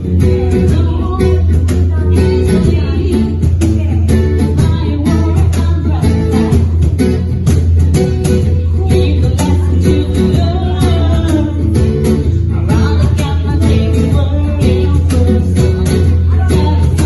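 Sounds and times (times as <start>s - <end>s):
bass line: 0.0s - 17.0s
guitar: 0.0s - 17.0s
person singing: 0.0s - 17.0s
steady drum beat: 0.0s - 17.0s.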